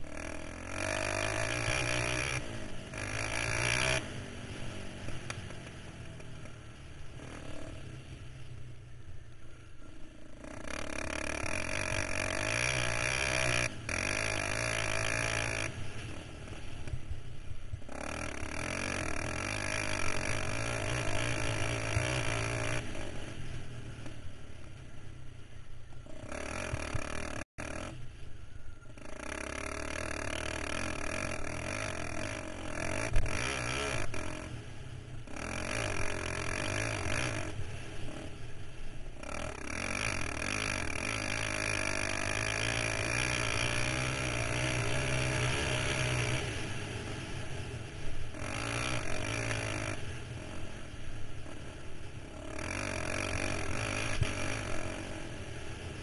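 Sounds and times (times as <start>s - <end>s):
quad engine revving: 0.0s - 8.4s, 9.8s - 24.8s, 26.0s - 28.0s, 28.8s - 56.0s.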